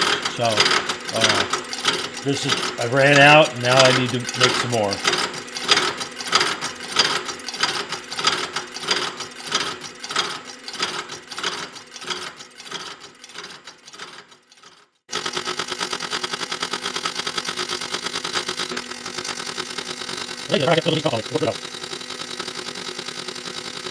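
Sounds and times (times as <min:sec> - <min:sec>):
machine saw cutting steel: 0:00.0 - 0:23.9.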